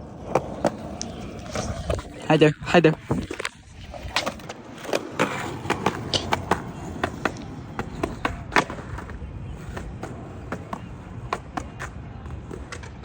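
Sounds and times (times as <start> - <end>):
skateboard clicks and clacks: 0.0 - 13.0
skateboard wheels rumbling: 0.0 - 13.0.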